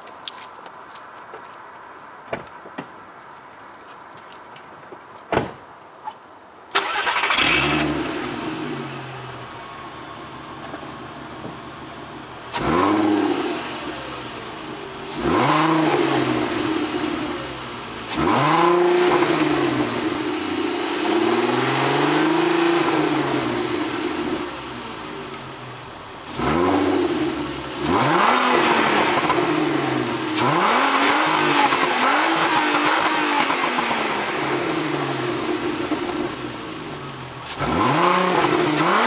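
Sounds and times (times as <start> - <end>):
car engine starting and revving: 6.7 - 39.0.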